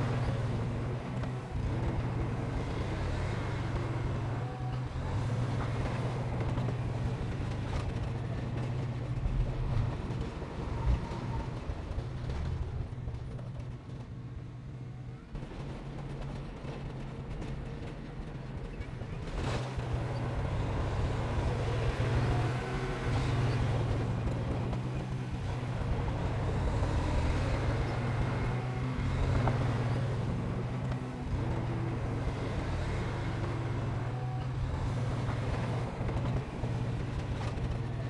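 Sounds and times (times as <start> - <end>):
construction machine diesel engine: 0.0 - 38.0.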